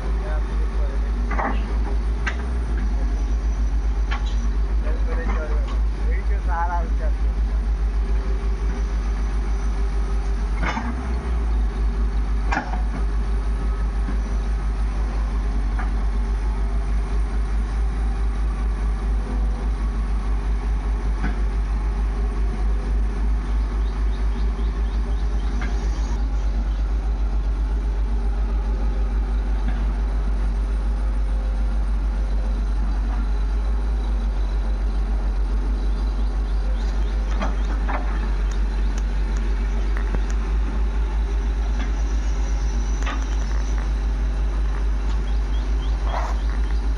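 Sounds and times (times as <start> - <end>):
diesel engine rumbling: 0.0 - 46.9.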